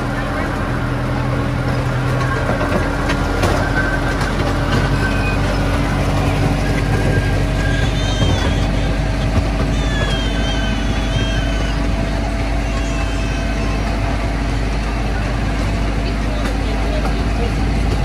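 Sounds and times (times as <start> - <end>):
train engine hum and rumble: 0.0 - 18.0.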